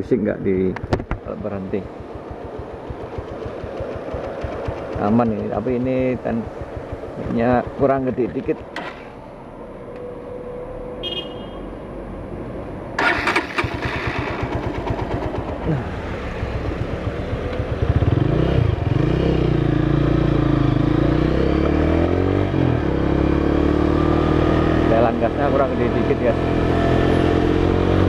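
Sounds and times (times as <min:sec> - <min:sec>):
motorcycle engine: 0:00.8 - 0:11.8, 0:13.0 - 0:28.0.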